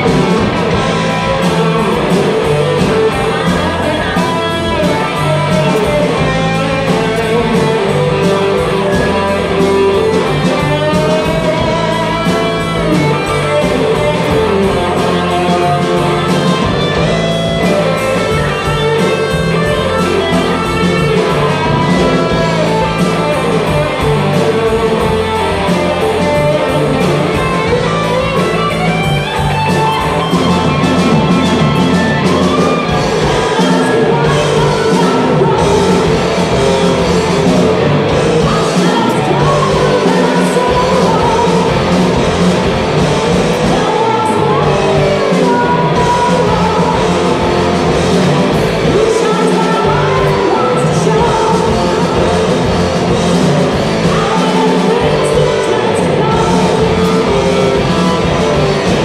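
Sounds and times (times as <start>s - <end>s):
live rock band playing: 0.0s - 59.0s
woman singing: 0.7s - 42.5s, 43.5s - 59.0s.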